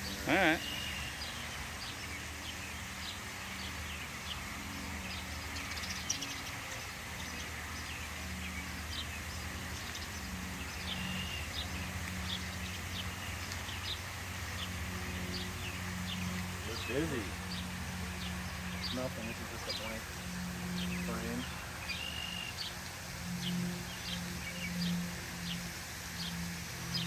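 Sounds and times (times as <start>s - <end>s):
bees buzzing: 0.0s - 27.0s
small birds chirping: 0.0s - 27.0s.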